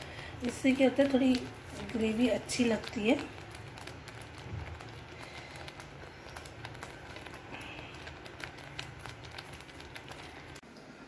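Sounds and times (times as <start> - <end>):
gravy popping and crackling: 0.0 - 11.0.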